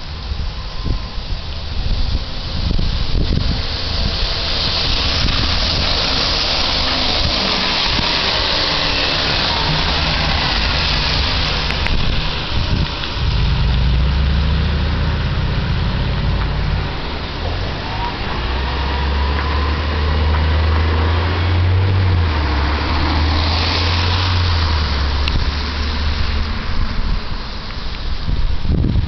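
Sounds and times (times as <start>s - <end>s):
faint rising whine: 0.0s - 26.4s
bus engine drone: 0.0s - 29.0s
tyres hissing on wet road: 0.0s - 29.0s.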